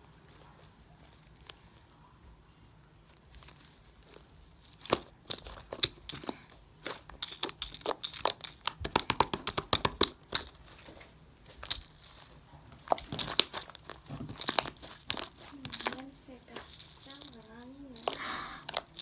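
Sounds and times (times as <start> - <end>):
slime crackling and popping: 3.2 - 19.0.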